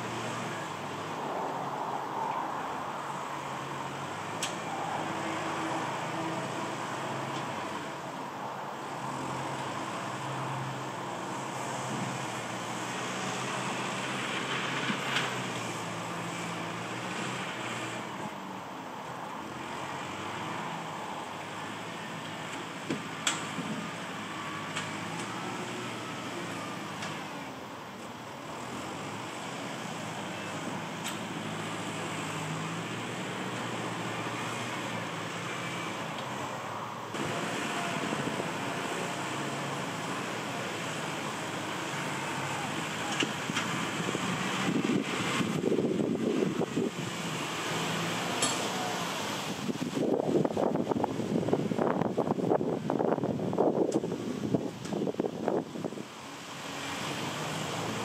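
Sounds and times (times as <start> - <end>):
tractor engine running under load: 8.8 - 36.5, 37.1 - 58.0.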